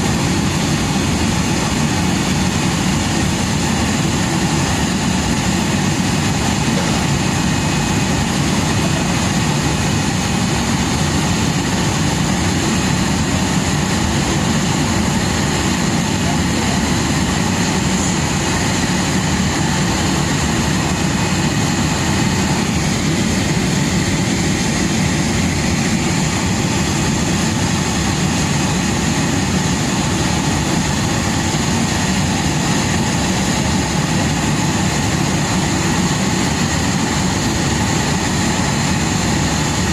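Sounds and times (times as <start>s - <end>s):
engines and machinery droning: 0.0s - 39.9s
high-pitched whine: 0.0s - 39.9s.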